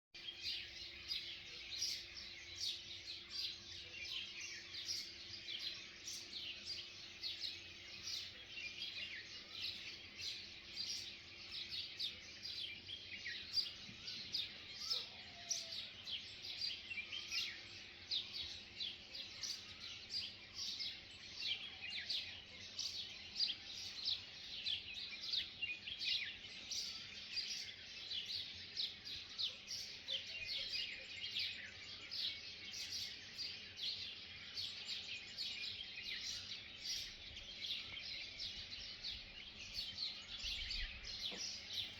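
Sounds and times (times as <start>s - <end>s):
small birds chirping: 0.2s - 41.9s.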